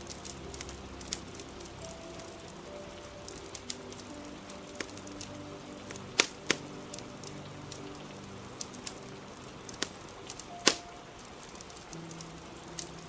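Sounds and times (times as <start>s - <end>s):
crackling fire popping: 0.0s - 13.0s
hiss of rain: 0.0s - 13.0s
soft background music: 0.0s - 13.0s.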